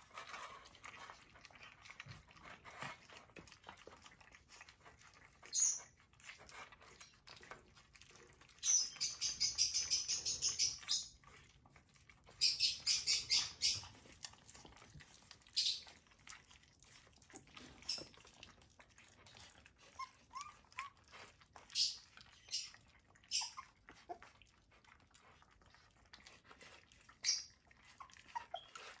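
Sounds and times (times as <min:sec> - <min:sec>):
puppies smacking and lapping food: 0:00.0 - 0:29.0.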